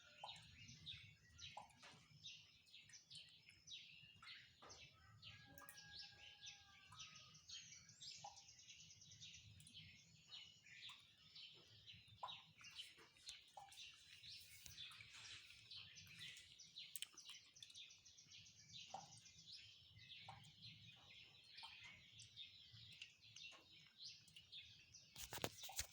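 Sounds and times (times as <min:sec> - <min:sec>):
faint chorus of birds chirping: 0:00.0 - 0:25.9.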